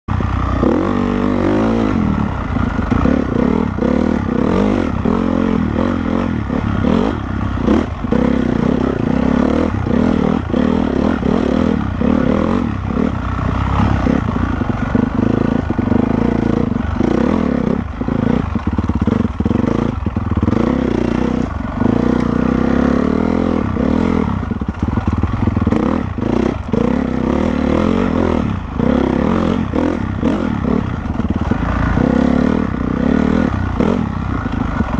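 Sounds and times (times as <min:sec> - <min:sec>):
motorcycle engine revving off-road: 0:00.0 - 0:34.9
clatter: 0:00.2 - 0:34.9.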